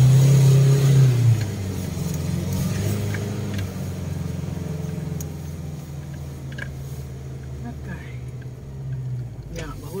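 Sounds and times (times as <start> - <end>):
car engine drone from inside cabin: 0.0 - 10.0.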